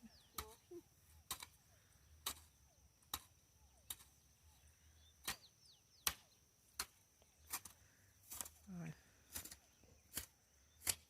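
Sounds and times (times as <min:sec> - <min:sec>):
faint bird chirps: 0:00.0 - 0:06.6, 0:08.7 - 0:11.0
hoe chopping wet soil: 0:00.2 - 0:04.2, 0:05.2 - 0:11.0.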